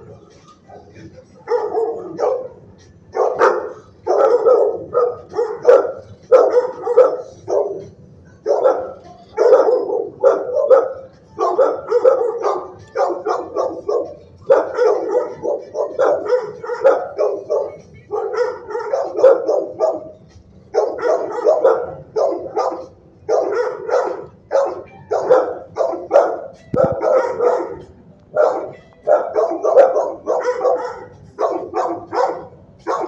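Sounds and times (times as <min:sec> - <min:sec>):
dogs barking: 0:00.0 - 0:33.0.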